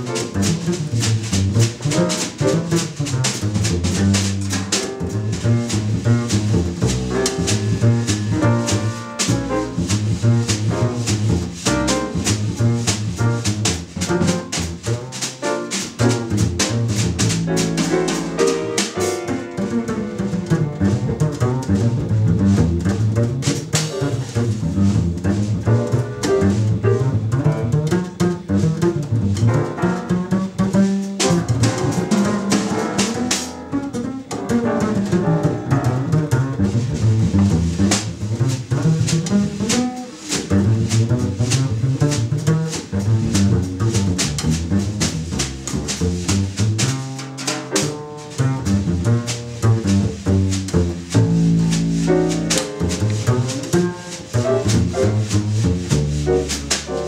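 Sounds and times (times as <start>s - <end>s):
drums and cymbals: 0.0s - 27.4s, 28.0s - 57.0s
plucked double bass: 0.0s - 57.0s.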